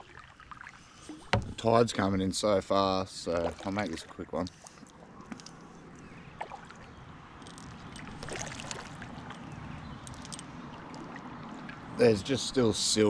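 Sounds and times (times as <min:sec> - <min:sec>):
paddle splashing water: 0:00.0 - 0:02.1, 0:03.2 - 0:07.0, 0:07.6 - 0:12.4
water trickling along hull: 0:00.0 - 0:13.0.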